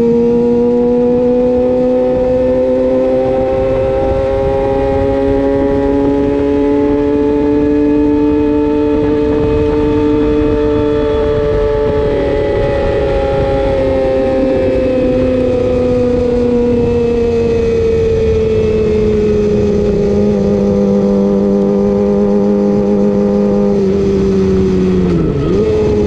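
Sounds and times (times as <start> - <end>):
motorcycle engine running: 0.0 - 26.0
wind noise: 0.0 - 26.0.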